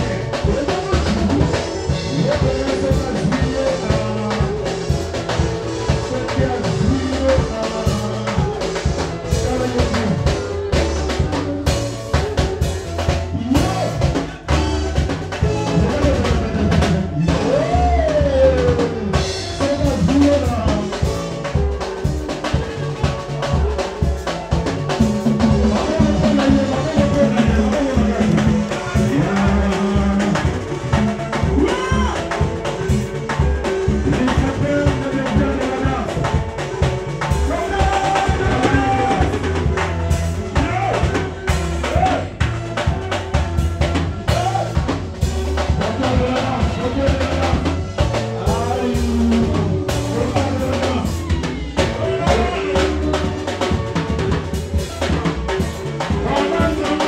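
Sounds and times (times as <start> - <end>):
bass guitar: 0.0 - 57.0
drum kit steady beat: 0.0 - 57.0
electric guitar: 0.0 - 57.0.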